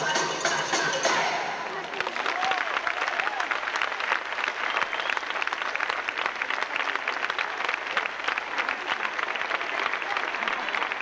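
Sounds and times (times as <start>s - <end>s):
audience applauding: 1.5s - 11.0s.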